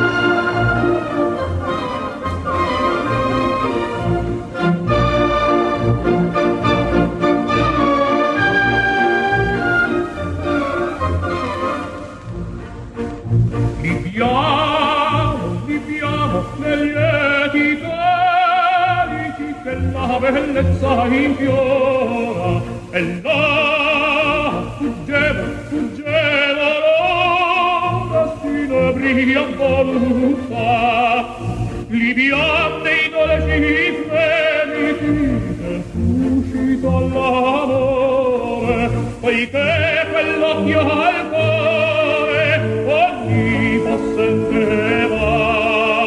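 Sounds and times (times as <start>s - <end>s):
musical accompaniment: 0.0s - 46.0s
operatic singing with vibrato: 0.0s - 46.0s.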